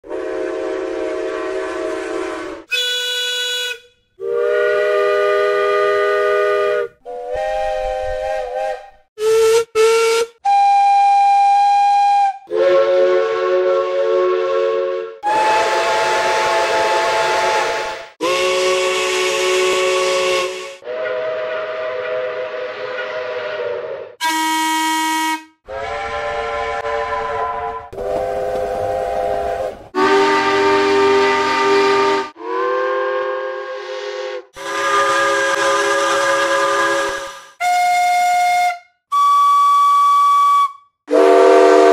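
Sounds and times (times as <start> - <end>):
steam locomotive whistle blasts: 0.0 - 41.9.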